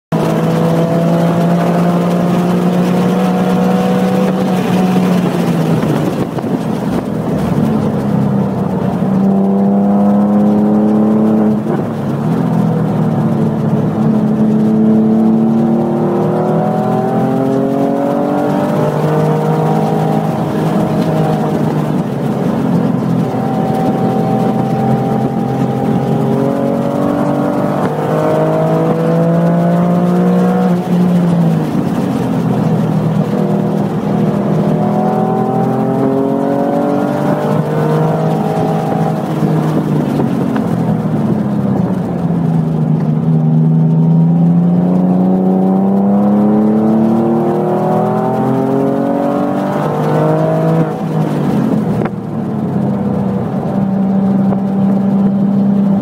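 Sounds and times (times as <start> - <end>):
car engine accelerating: 0.1 - 56.0
road and wind noise: 0.1 - 56.0.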